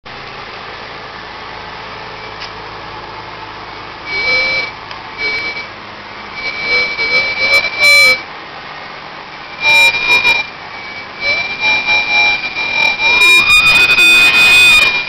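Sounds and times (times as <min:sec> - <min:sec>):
brakes squealing: 0:00.1 - 0:15.0
road noise: 0:00.1 - 0:15.0.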